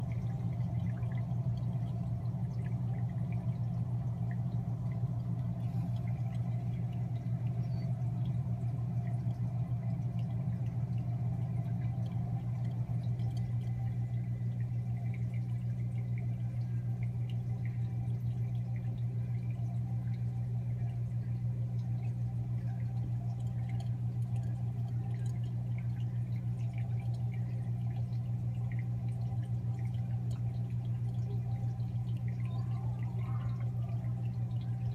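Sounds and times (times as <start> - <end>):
aquarium pump humming: 0.0 - 34.9
water trickling and dripping: 0.0 - 34.9.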